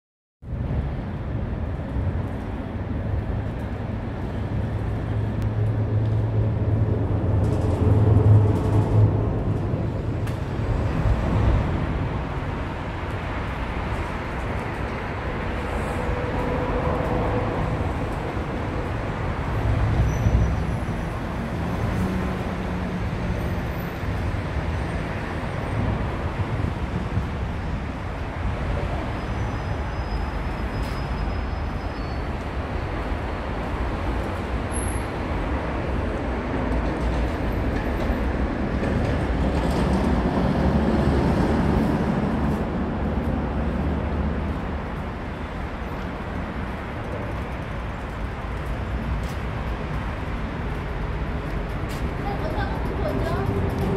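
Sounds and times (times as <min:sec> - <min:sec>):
road traffic rumbling overhead: 0:00.4 - 0:53.9.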